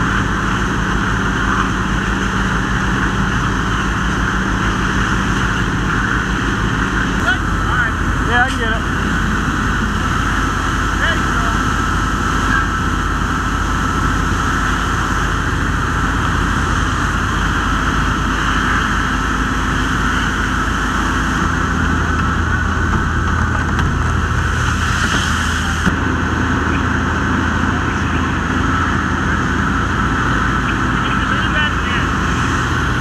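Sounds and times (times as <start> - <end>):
fire engine pump drone: 0.0 - 33.0.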